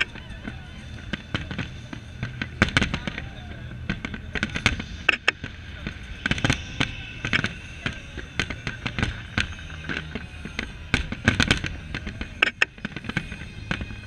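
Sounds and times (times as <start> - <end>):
fireworks shells bursting: 0.0 - 14.0.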